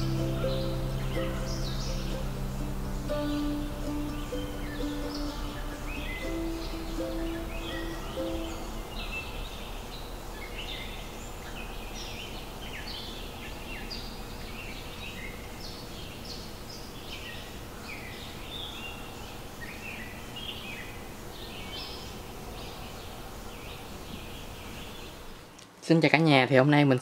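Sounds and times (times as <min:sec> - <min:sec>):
small birds chirping: 0:00.0 - 0:25.6
steady low background noise: 0:00.0 - 0:27.0.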